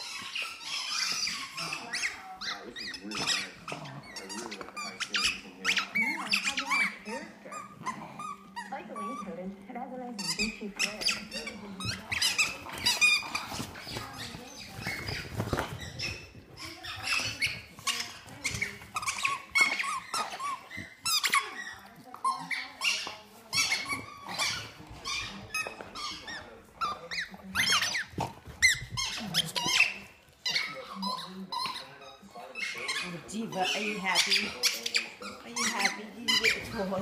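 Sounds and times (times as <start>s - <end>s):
squeaky ball squeaking: 0.0s - 9.5s, 10.2s - 37.0s.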